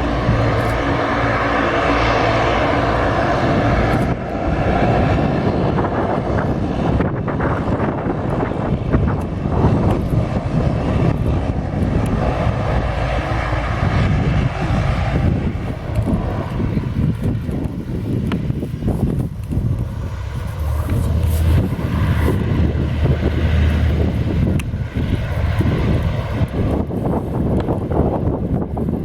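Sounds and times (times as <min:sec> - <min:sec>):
airliner engines running: 0:00.0 - 0:29.0.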